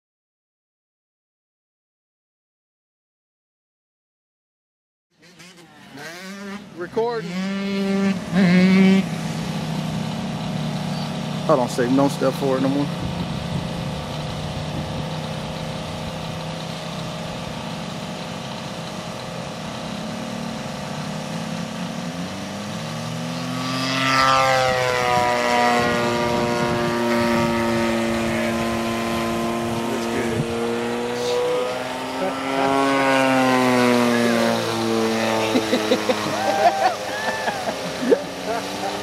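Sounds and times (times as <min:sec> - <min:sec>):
model plane engine revving: 0:05.2 - 0:39.0.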